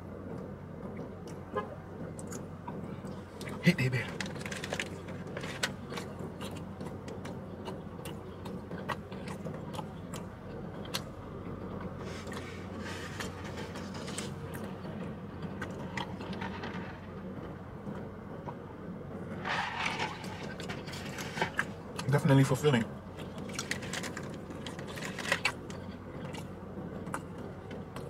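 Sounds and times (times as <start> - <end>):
low hum inside car: 0.0 - 28.0.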